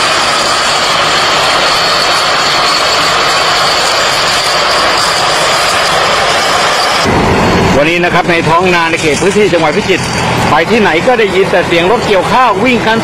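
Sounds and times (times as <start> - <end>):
combine harvester machine noise: 0.0 - 13.0
thin high whine: 0.0 - 13.0.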